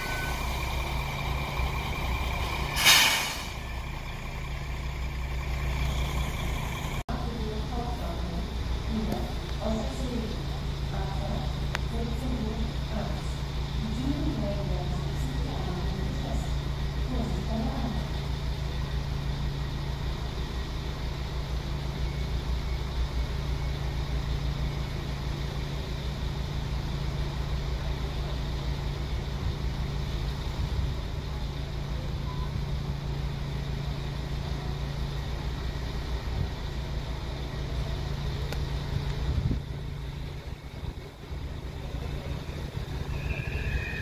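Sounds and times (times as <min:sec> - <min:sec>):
diesel train engine idling: 0:00.0 - 0:44.0.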